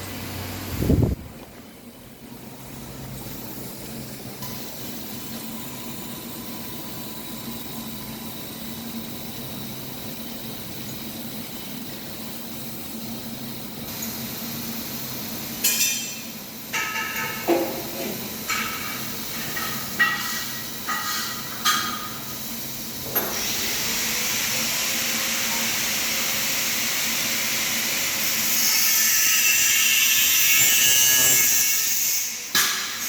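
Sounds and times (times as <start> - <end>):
thin steady whine: 0.0 - 28.5.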